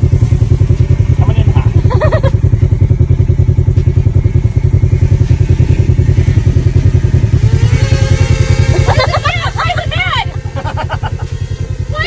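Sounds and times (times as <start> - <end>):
engine running with pulsing beat: 0.0 - 12.0.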